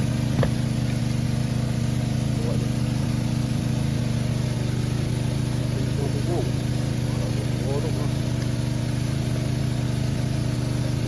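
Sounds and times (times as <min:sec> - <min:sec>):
small engine throbbing: 0:00.0 - 0:11.0.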